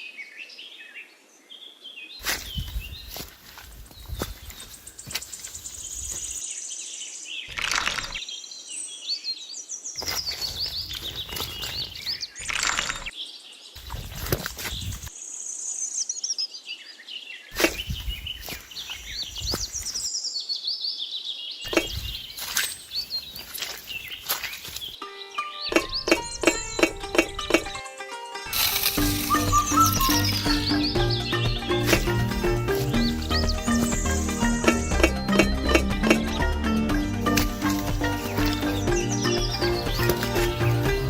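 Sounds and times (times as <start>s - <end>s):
small birds chirping: 0.0s - 27.8s, 28.4s - 41.0s
outdoor background noise: 0.0s - 41.0s.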